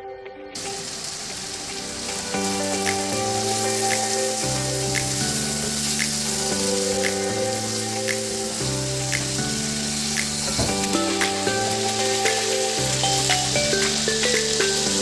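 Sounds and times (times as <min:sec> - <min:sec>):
chicken sizzling in a frying pan: 0:00.6 - 0:15.0
background music with bass line: 0:02.2 - 0:15.0.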